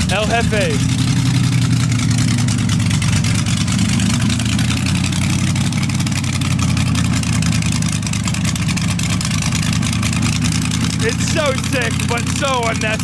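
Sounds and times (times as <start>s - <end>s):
car engine idling loudly: 0.0s - 13.0s.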